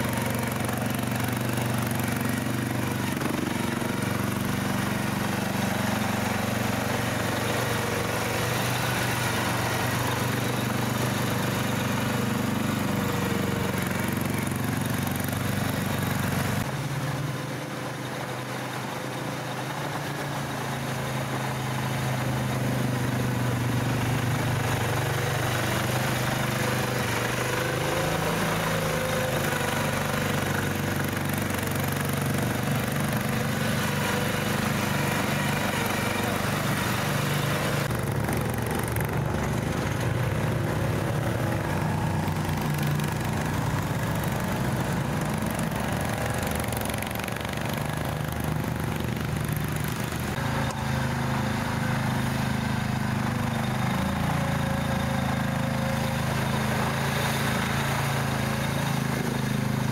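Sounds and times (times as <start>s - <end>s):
all-terrain vehicle engine running: 0.0s - 59.9s.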